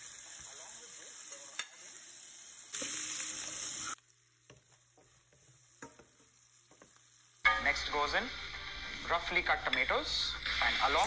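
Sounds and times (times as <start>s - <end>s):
onions sizzling in a pan: 0.0s - 11.0s.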